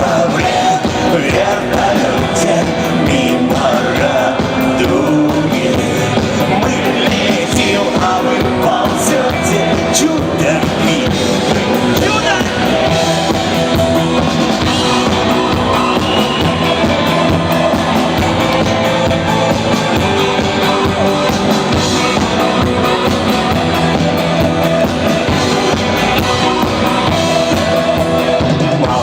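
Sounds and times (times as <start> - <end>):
rock band instrumental: 0.0 - 29.0.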